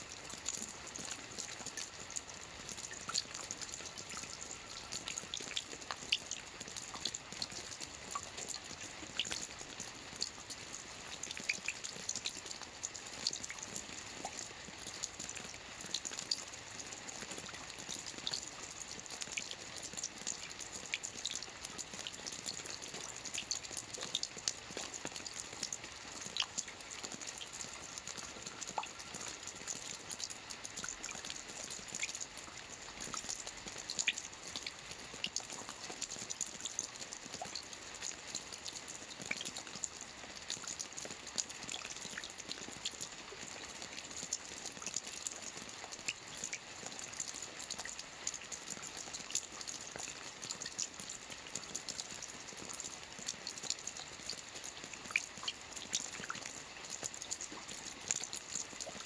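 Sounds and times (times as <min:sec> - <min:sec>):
soft rain pattering on a roof: 0:00.0 - 0:59.0.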